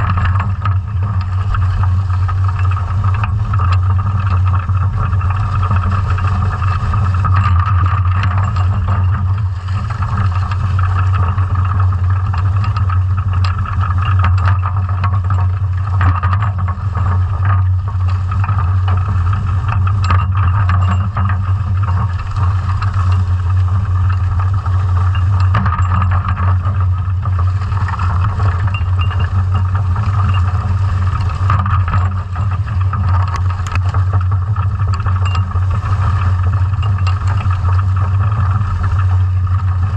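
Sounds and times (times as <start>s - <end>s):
chain clicks and rattles: 0.0s - 39.9s
underwater low drone: 0.0s - 39.9s.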